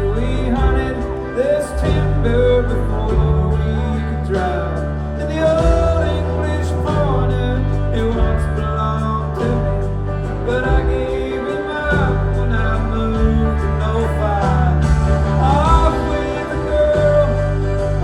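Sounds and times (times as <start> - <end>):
country band playing live: 0.0 - 18.0.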